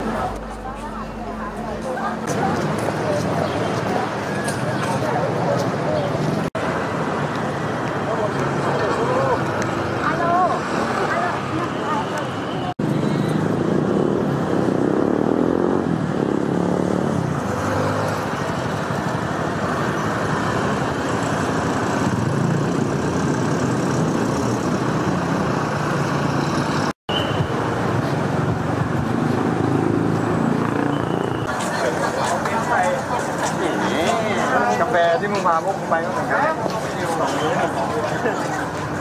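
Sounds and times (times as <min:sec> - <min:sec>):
street traffic passing: 0:00.0 - 0:39.0.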